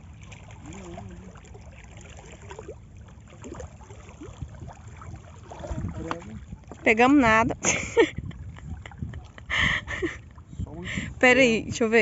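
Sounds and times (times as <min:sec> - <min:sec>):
ripples lapping at shoreline: 0:00.0 - 0:11.3
steady low rumble: 0:00.0 - 0:12.0.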